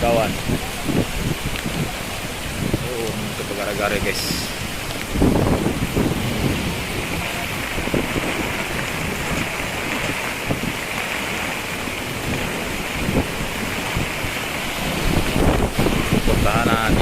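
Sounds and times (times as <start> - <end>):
rain hiss: 0.0 - 17.0
wind buffeting microphone: 0.0 - 17.0.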